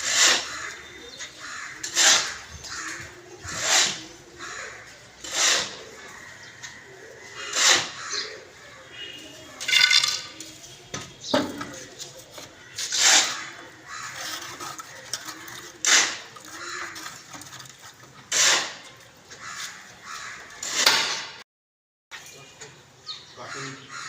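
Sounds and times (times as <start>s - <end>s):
birds calling harshly: 0.0s - 21.4s, 22.2s - 24.0s
busy background noise: 0.1s - 20.8s.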